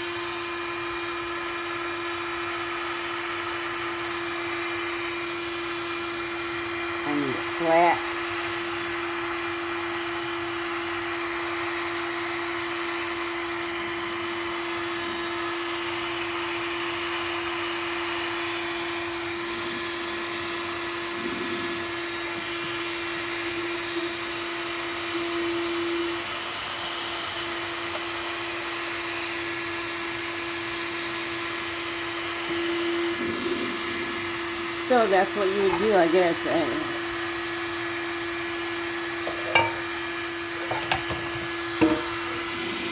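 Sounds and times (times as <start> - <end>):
heat gun fan whirring: 0.0 - 42.9.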